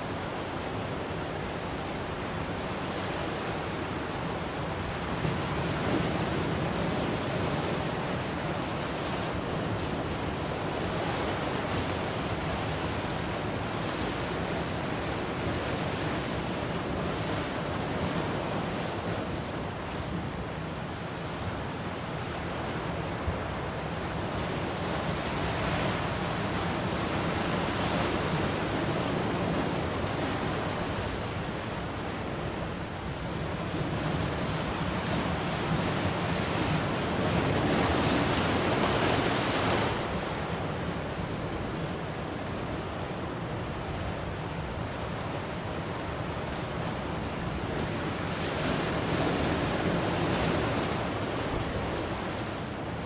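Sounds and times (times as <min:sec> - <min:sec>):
ocean waves washing: 0:00.0 - 0:53.0.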